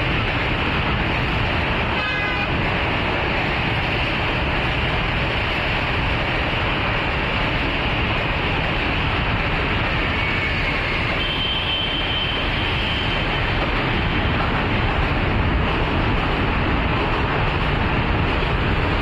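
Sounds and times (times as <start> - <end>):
road traffic passing: 0.0 - 19.0
train rumbling across bridge: 0.0 - 19.0.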